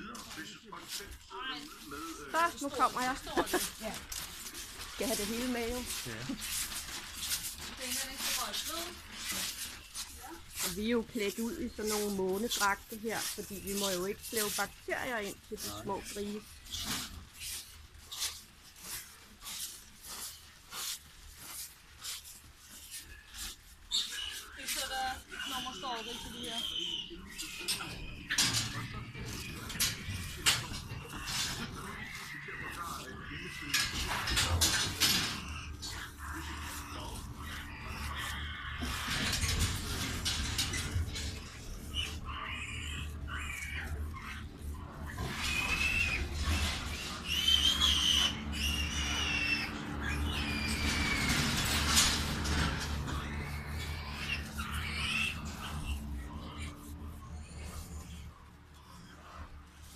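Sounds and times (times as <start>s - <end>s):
footsteps in rustling coverall: 0.0s - 59.9s
pigs grunting and squealing: 0.0s - 59.9s
steady low hum: 0.0s - 59.9s.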